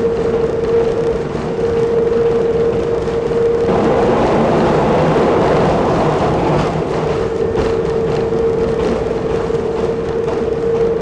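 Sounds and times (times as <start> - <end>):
railbus engine drone: 0.0 - 11.0
wheels rushing on rail: 0.0 - 11.0.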